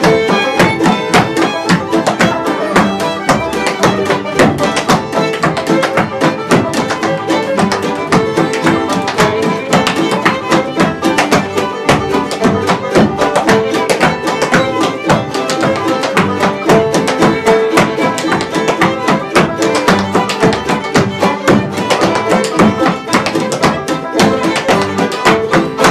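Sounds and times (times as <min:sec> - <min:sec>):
fiddle: 0:00.0 - 0:25.9
guitar: 0:00.0 - 0:25.9.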